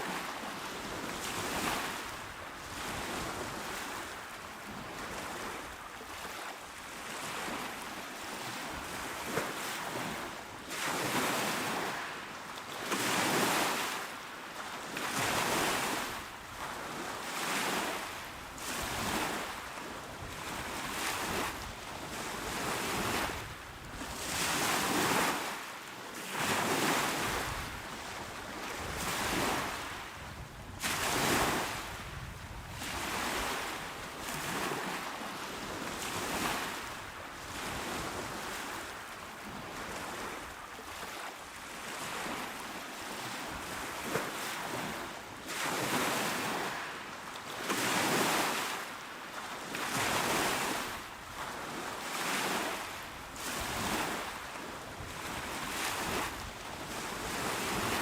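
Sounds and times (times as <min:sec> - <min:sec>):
waves washing onto shore: 0:00.0 - 0:58.0.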